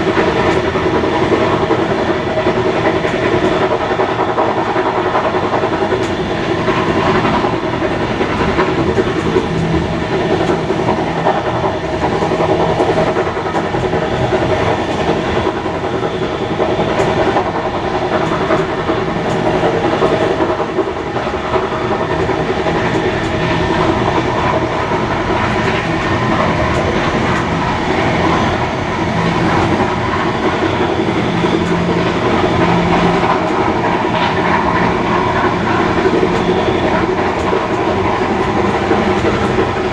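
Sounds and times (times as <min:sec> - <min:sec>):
steam train running: 0:00.0 - 0:39.9
wheels clicking over rail joints: 0:00.0 - 0:39.9.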